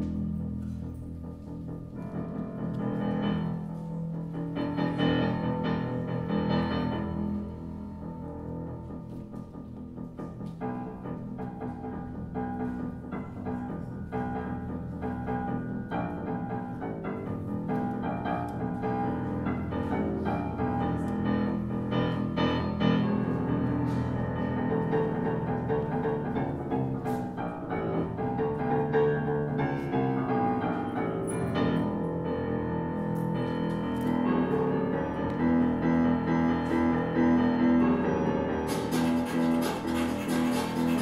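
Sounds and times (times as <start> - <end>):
grand piano playing: 0.0 - 41.0.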